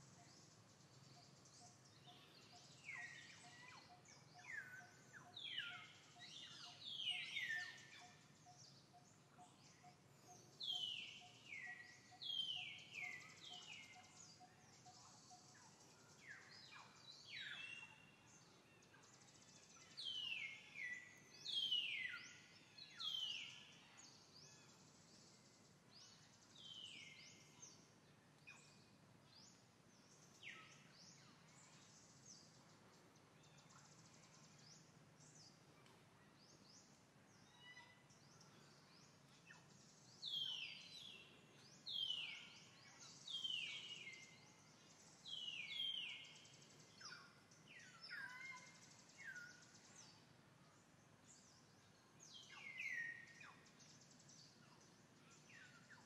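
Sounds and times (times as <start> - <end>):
faint outdoor hiss: 0.0 - 56.0.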